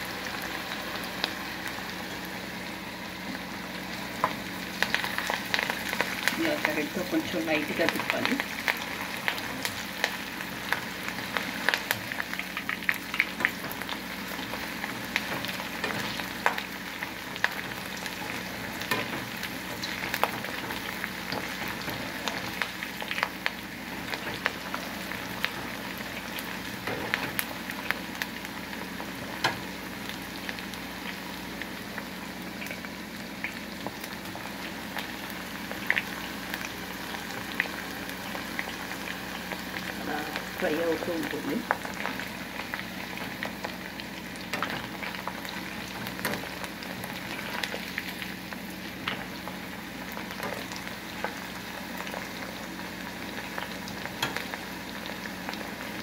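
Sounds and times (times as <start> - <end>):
chicken deep-frying in oil: 0.0 - 56.0.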